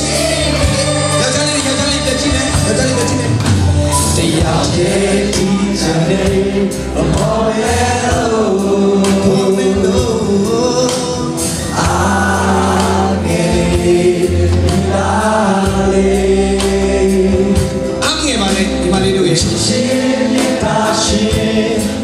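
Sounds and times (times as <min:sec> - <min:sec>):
congregation singing along: 0:00.0 - 0:22.0
regular drum beat: 0:00.0 - 0:22.0
worship band playing: 0:00.0 - 0:22.0.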